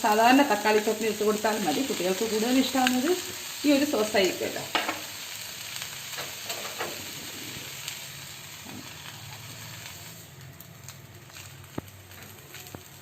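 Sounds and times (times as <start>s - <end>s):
pancake sizzling on a hot pan: 0.0s - 13.0s.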